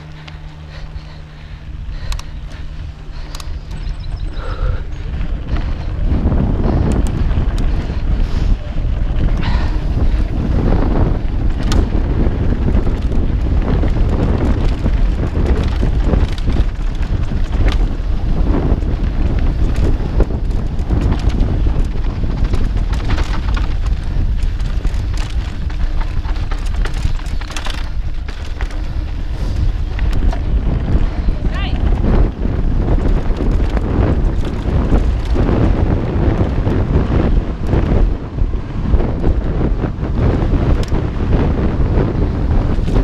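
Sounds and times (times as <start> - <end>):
bike rattling over rough trail: 0.0 - 43.0
wind buffeting microphone: 0.0 - 43.0.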